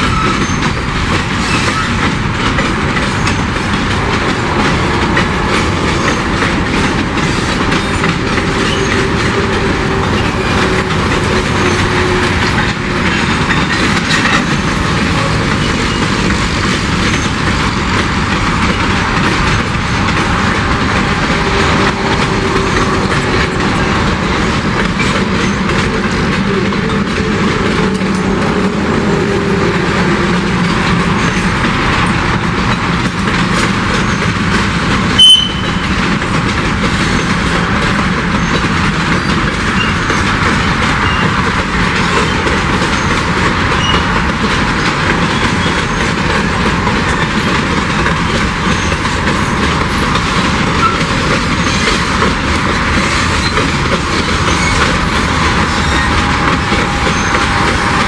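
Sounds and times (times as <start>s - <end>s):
freight train wheels rolling: 0.0s - 58.0s.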